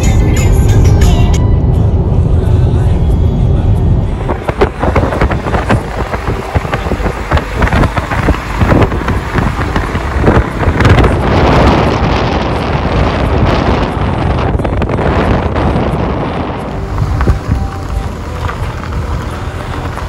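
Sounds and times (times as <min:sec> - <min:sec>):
wind buffeting microphone: 0:03.8 - 0:20.0.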